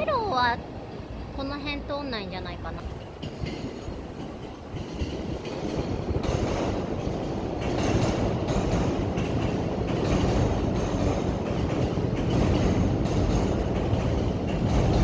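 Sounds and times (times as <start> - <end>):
electric train passing: 0.0 - 15.0
wheels clacking over rails: 2.8 - 15.0.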